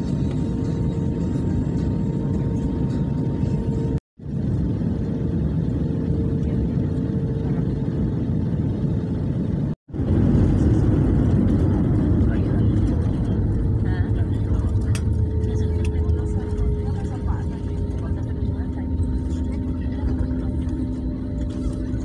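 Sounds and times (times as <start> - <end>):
jet engine and airflow roar: 0.0 - 22.0.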